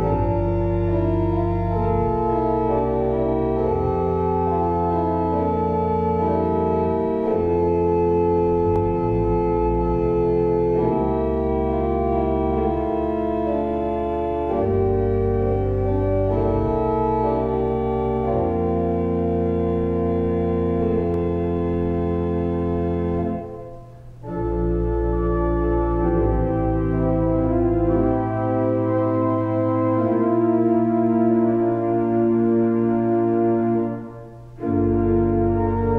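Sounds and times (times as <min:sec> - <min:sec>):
pipe organ chords: 0:00.0 - 0:35.9.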